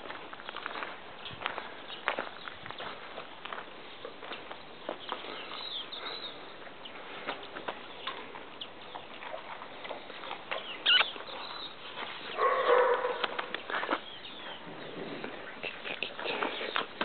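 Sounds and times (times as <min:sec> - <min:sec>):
paws clicking on gravel: 0:00.0 - 0:17.0.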